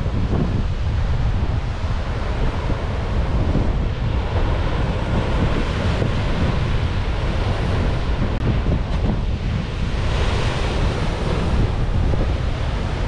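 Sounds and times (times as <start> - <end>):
surf breaking on rocky shore: 0.0 - 13.0
wind buffeting microphone: 0.0 - 13.0.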